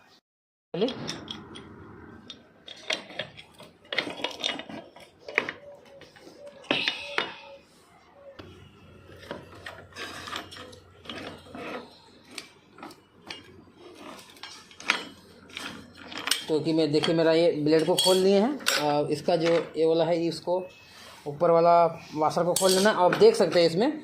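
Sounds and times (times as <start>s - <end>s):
metal clinks and scraping: 0.8s - 7.6s, 8.4s - 20.0s, 22.2s - 23.8s.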